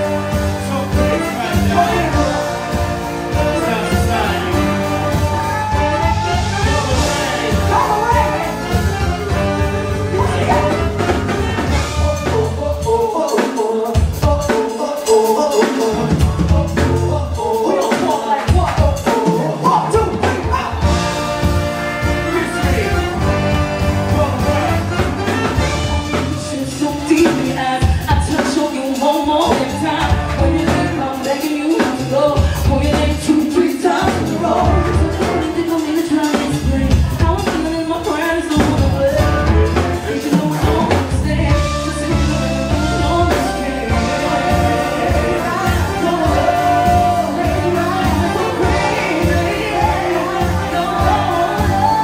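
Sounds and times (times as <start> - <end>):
live band playing: 0.0 - 52.0.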